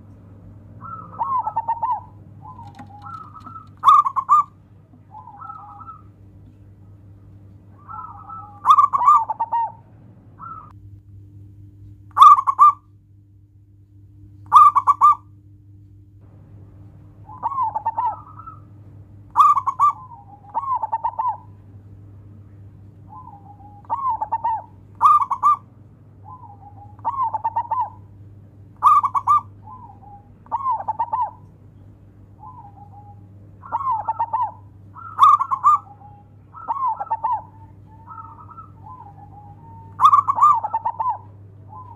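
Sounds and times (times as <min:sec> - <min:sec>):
dove cooing trills: 0:00.0 - 0:10.8, 0:12.2 - 0:12.9, 0:14.5 - 0:15.3, 0:16.5 - 0:41.9.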